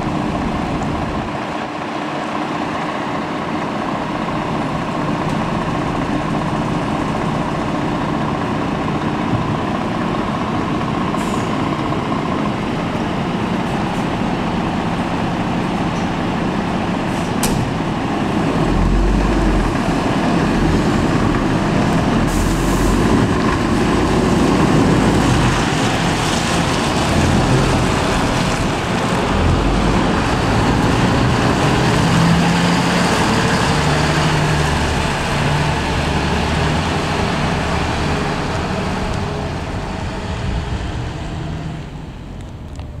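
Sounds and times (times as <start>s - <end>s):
diesel truck engines running: 0.0s - 43.0s.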